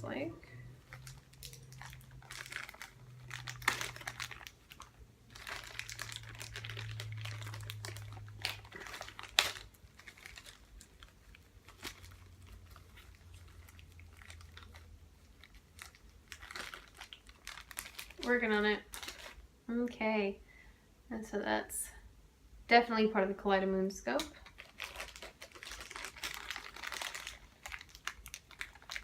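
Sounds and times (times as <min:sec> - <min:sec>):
faint low hum: 0:00.0 - 0:29.0
plastic packaging crinkling: 0:00.5 - 0:19.5, 0:24.2 - 0:29.0.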